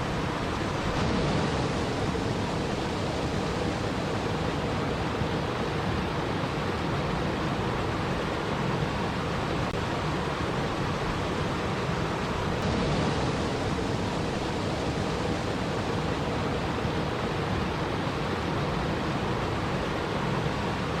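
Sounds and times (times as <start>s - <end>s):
flowing water rushing: 0.0s - 21.0s.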